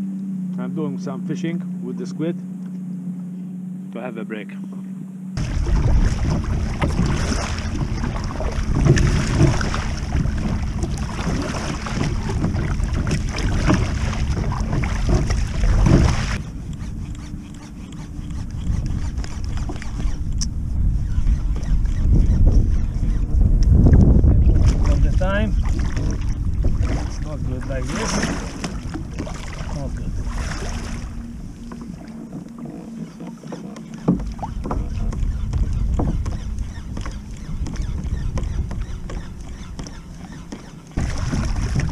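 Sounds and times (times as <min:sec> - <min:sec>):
wind buffeting on microphone: 0:04.6 - 0:41.9
paddle splashing in water: 0:05.4 - 0:23.2, 0:24.0 - 0:41.9.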